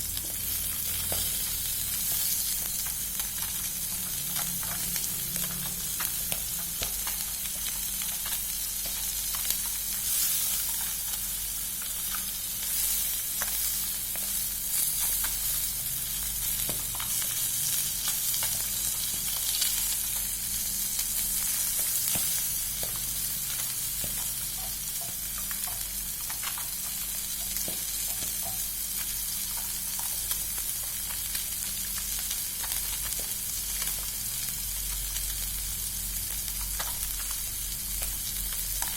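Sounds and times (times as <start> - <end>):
food sizzling in hot oil: 0.0 - 38.9
oil crackling and popping: 0.1 - 35.6, 36.2 - 38.9.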